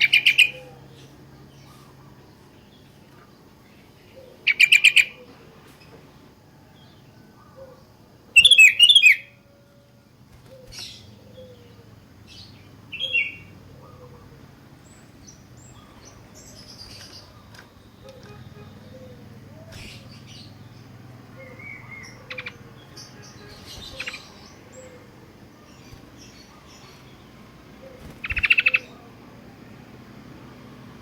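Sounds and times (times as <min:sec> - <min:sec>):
bird chirping: 0:00.0 - 0:30.7.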